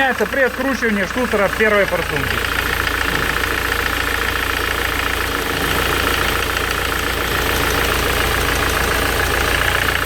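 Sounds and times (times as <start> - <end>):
diesel engine idling with knock: 0.0 - 10.0.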